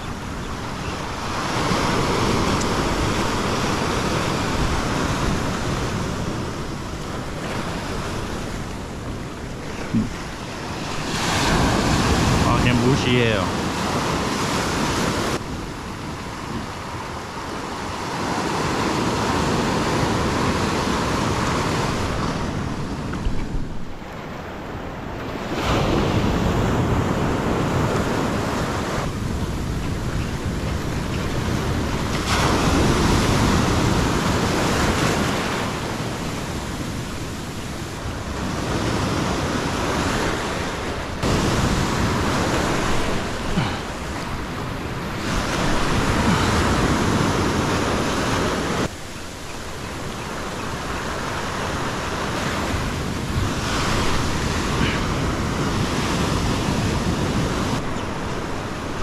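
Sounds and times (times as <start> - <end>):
ocean surf breaking over rocks: 0.0 - 59.0.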